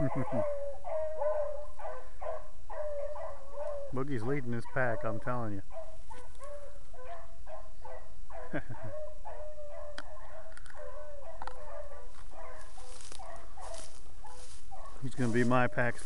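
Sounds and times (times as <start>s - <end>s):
hounds baying: 0.0s - 15.9s.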